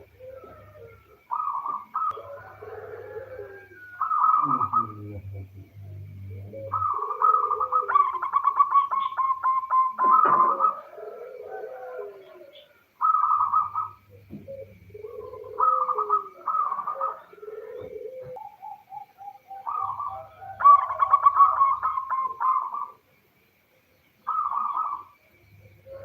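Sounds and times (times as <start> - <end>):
dove cooing: 0.0 - 23.2, 24.2 - 26.0.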